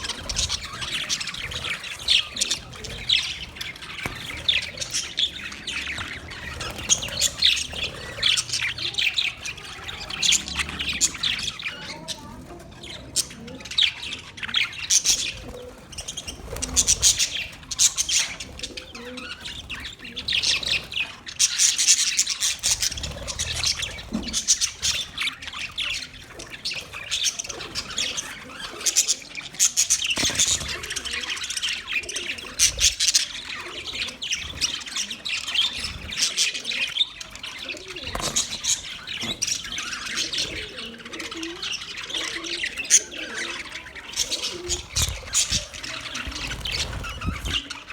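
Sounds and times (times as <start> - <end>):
budgerigars chirping and chattering: 0.0 - 47.9.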